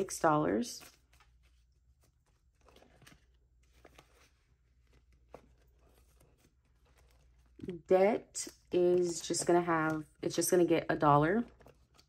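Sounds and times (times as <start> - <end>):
faint paper rustling: 0.0 - 12.0.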